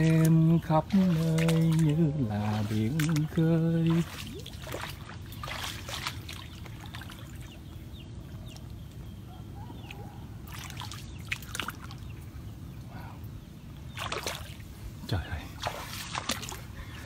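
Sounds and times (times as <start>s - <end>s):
water splashes: 0.0s - 8.8s, 9.8s - 12.3s, 13.8s - 17.0s
water sloshing and trickling: 0.0s - 17.0s.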